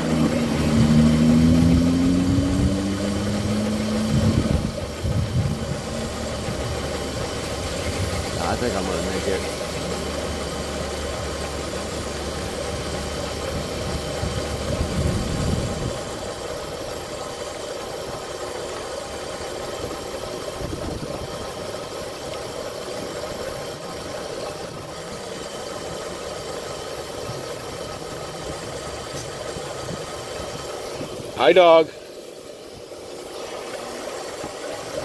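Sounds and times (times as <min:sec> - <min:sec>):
drivetrain rattle: 0:00.0 - 0:35.0.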